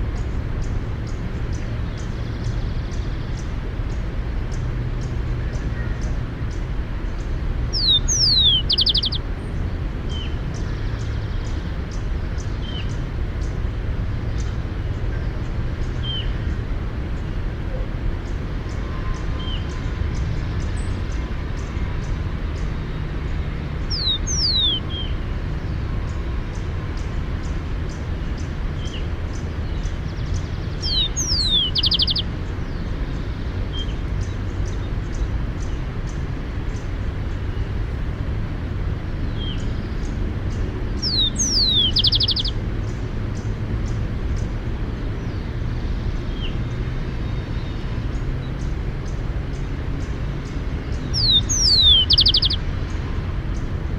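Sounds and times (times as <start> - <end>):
steady low rumble: 0.0 - 53.9
sparrow singing: 0.1 - 37.8, 39.1 - 53.8.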